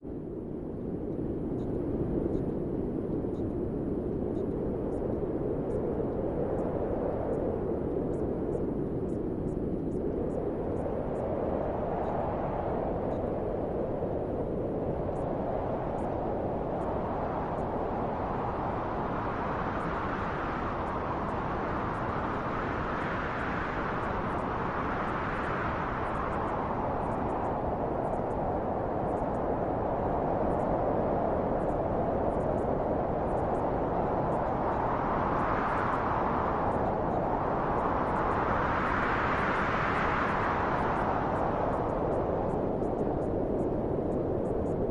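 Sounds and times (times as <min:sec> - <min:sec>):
low wind rushing: 0:00.0 - 0:44.9.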